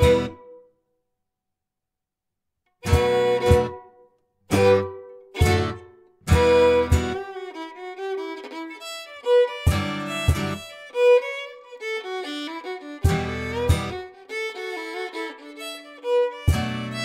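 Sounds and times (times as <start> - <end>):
instrumental background music: 0.0 - 0.7, 2.8 - 17.0.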